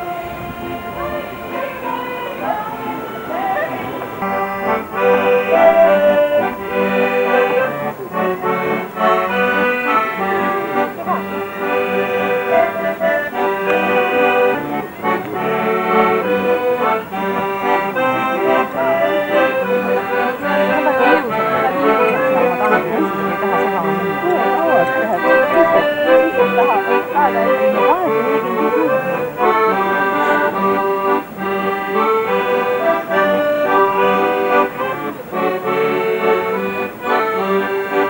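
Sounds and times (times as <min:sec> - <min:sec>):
accordion folk dance tune: 0:00.0 - 0:38.0.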